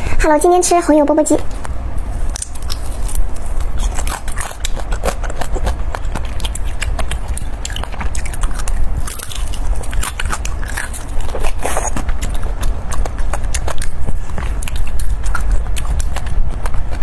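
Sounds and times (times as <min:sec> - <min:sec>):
biting and chewing meat: 0:01.5 - 0:17.0.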